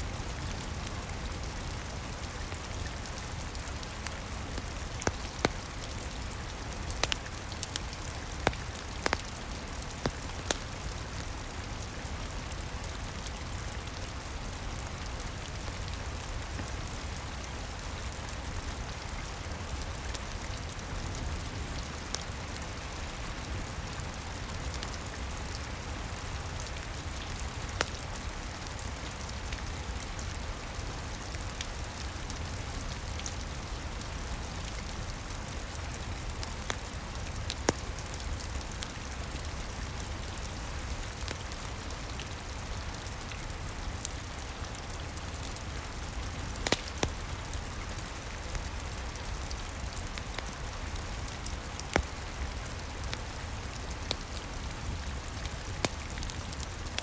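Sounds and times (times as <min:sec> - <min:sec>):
steady rain: 0:00.0 - 0:57.0
wood fire crackling: 0:00.1 - 0:57.0.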